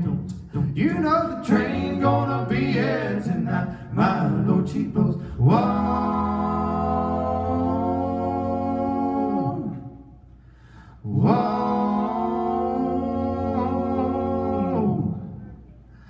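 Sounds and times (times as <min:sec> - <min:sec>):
vocal group humming chords: 0:00.0 - 0:10.3, 0:11.0 - 0:15.9.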